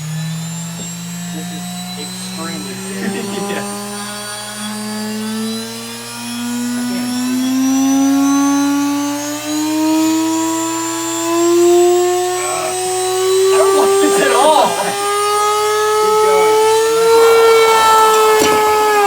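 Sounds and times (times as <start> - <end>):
motor whine rising in pitch: 0.0 - 19.0.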